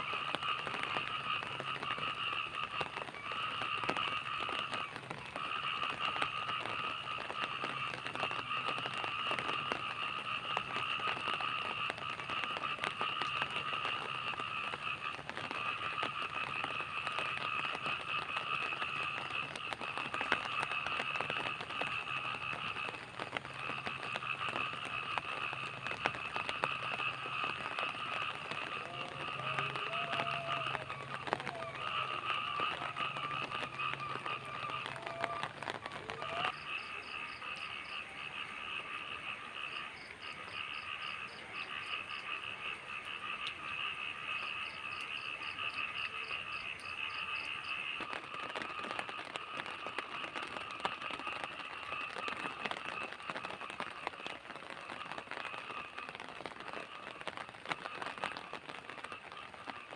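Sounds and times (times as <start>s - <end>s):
chorus of night-calling animals: 0.0s - 59.9s
raindrops ticking and crackling: 0.0s - 59.9s.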